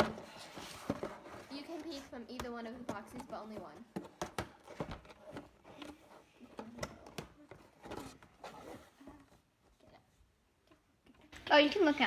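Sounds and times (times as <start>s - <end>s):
boxes being handled and opened: 0.0s - 11.3s.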